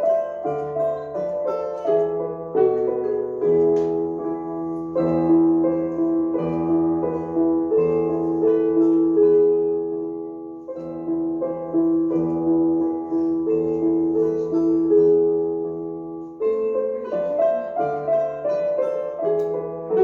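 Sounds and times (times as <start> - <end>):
live instrumental music: 0.0 - 20.0.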